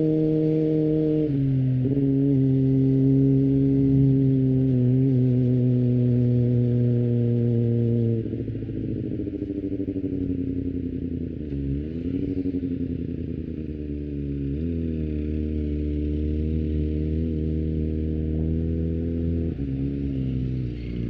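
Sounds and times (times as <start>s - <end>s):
motorcycle engine while riding: 0.0s - 21.0s.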